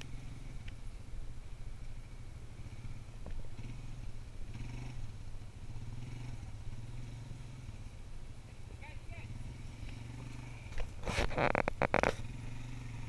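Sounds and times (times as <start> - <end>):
quad bike engine idling: 0.0 - 13.0.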